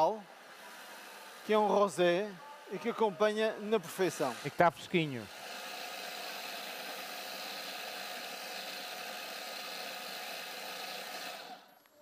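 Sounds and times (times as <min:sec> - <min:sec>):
food processor whirring: 0:00.0 - 0:02.8, 0:03.7 - 0:11.8.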